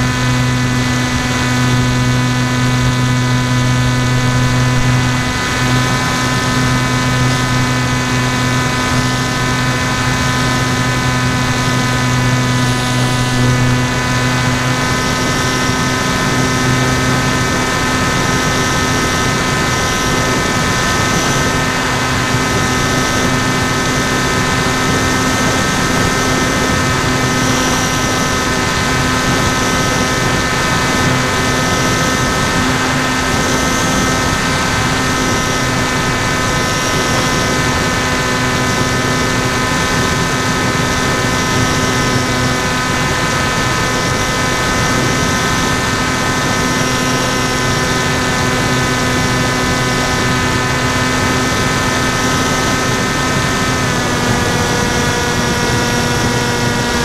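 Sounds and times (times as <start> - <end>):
electric motor spinning propeller: 0.0 - 57.0.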